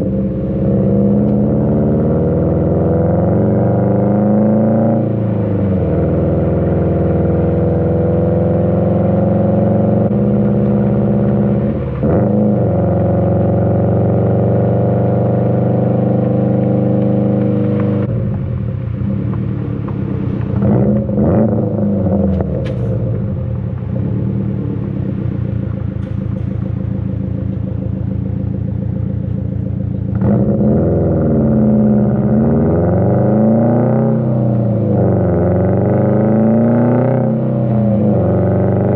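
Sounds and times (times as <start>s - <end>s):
car engine cruising: 0.0s - 38.9s.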